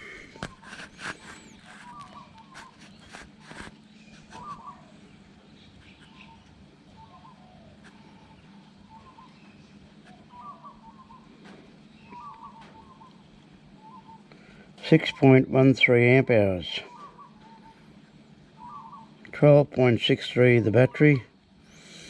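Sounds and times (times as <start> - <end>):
faint birdsong warbling: 0.0 - 22.0
low steady hum: 0.0 - 22.0.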